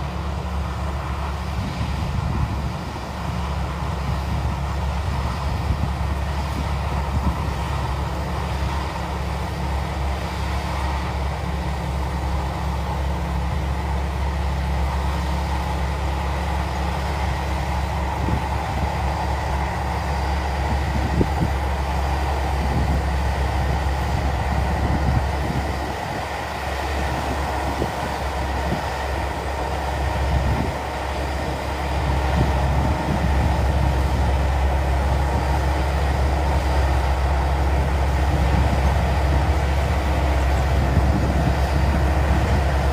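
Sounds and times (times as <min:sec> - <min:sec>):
combine harvester engine hum: 0:00.0 - 0:42.9.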